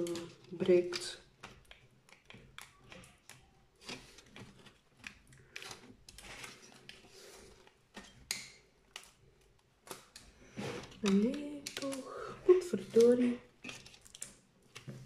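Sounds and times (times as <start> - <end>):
plastic clicks and scraping: 0.0 - 15.0.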